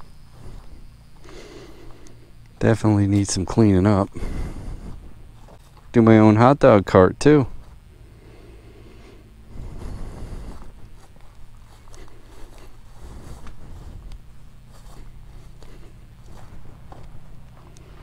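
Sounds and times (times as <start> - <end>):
faint low hum: 0.0 - 18.0
footsteps on grass and mulch: 0.0 - 18.0.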